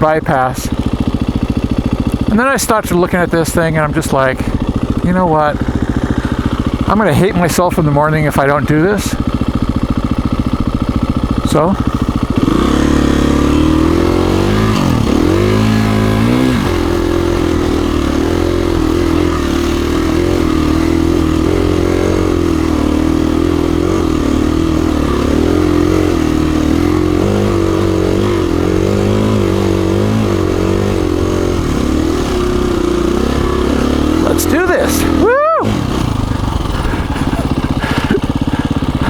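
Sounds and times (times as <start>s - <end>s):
dirt bike engine idling: 0.0s - 39.0s.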